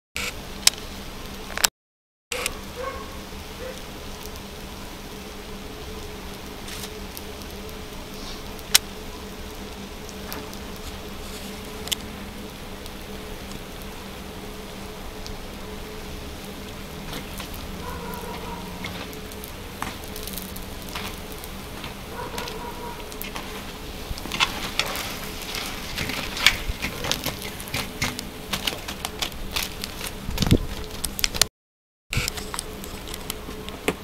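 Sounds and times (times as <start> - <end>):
low hum: 2.3 - 31.4
food sizzling and crackling: 2.3 - 31.5.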